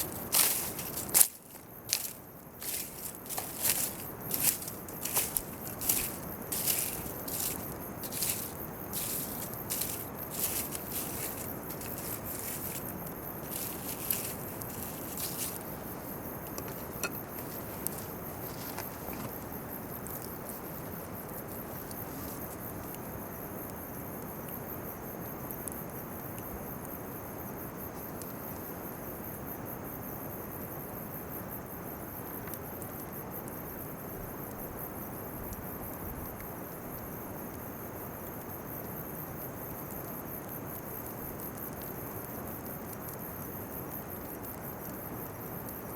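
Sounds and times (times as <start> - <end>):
insects trilling: 0.0 - 45.9.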